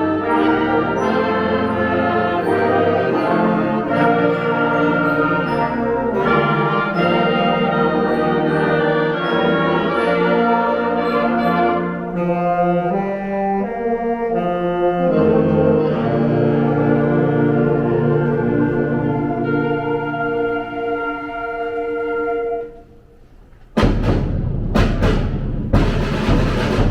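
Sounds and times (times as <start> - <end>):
orchestral brass chords: 0.0 - 23.1, 23.8 - 26.9.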